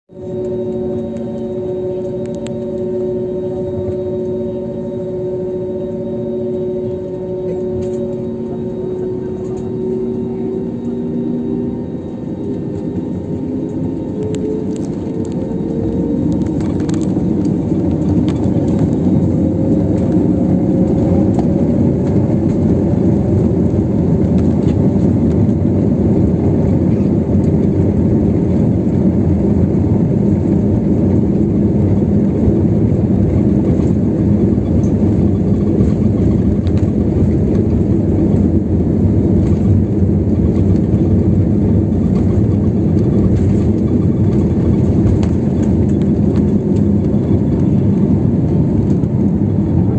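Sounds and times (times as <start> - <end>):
jet engine rumble in cabin: 0.1 - 49.9.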